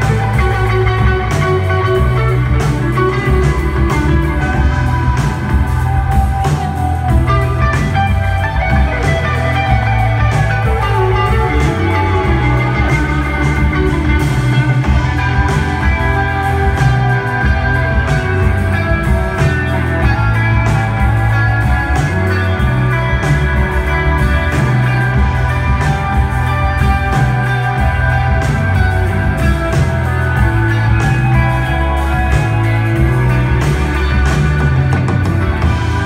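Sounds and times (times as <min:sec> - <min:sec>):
bass line: 0:00.0 - 0:36.0
electric guitar: 0:00.0 - 0:36.0.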